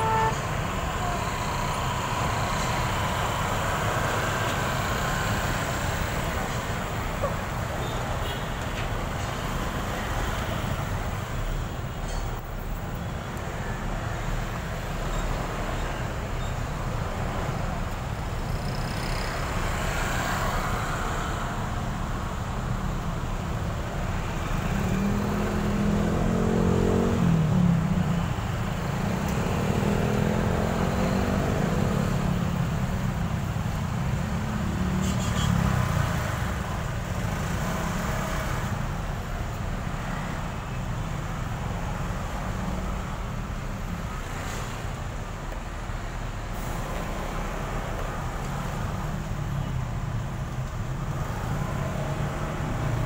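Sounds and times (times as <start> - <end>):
city traffic engines and road noise: 0.0 - 53.0.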